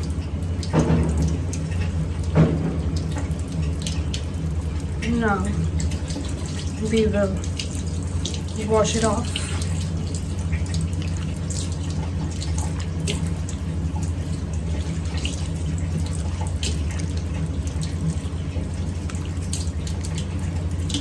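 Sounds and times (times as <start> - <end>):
sink tap running: 0.0 - 21.0
water splashing on face: 0.0 - 21.0.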